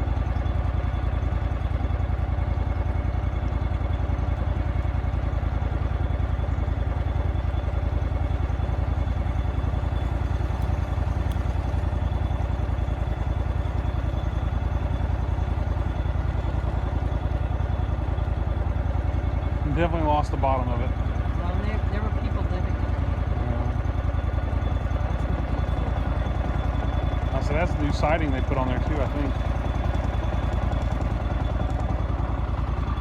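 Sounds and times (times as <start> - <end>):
engine running at low speed: 0.0 - 33.0.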